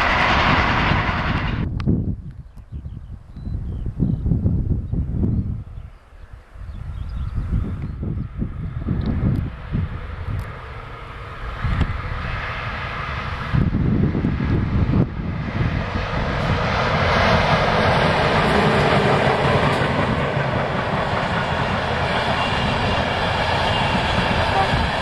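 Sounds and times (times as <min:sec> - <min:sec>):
train passing on rails: 0:00.0 - 0:02.0, 0:05.0 - 0:25.0
wind buffeting microphone: 0:00.0 - 0:25.0.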